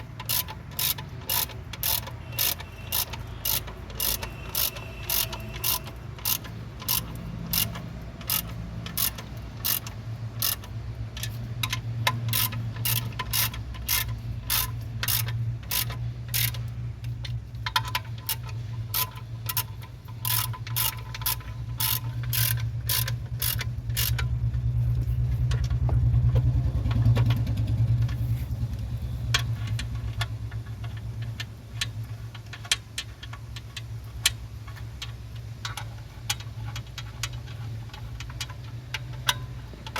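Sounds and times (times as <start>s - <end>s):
ratchet wrench clicking: 0.0s - 39.9s.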